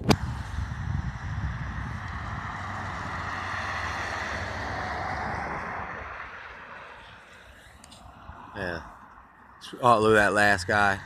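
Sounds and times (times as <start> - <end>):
vehicle passing with tyre noise: 0.1 - 11.0.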